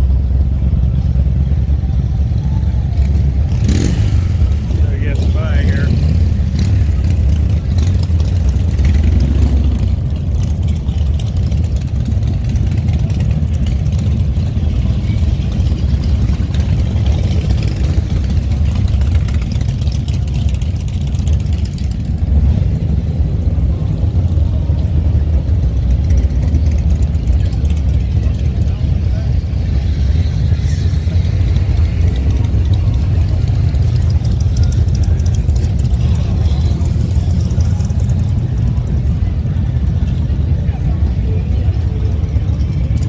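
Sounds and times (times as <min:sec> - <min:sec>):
motorcycle engines idling: 0:00.0 - 0:43.0.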